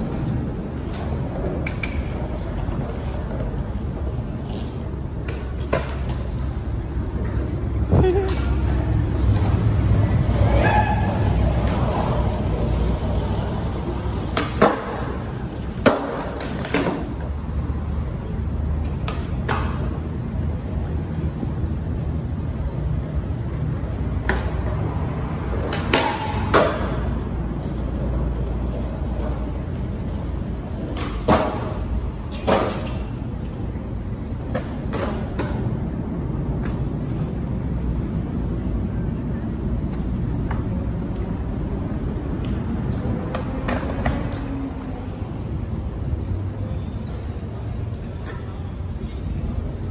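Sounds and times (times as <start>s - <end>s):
skateboard clacking on ground: 0.0s - 6.5s, 7.2s - 17.5s, 18.7s - 21.7s, 22.4s - 49.9s
skateboard wheels rolling on concrete: 0.0s - 49.9s.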